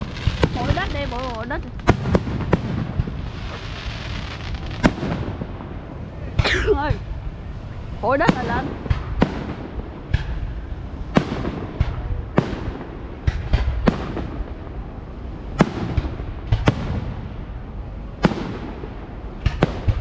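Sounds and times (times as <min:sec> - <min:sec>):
fireworks bangs with echo: 0:00.0 - 0:07.4, 0:08.1 - 0:20.0
low rumble: 0:00.0 - 0:20.0.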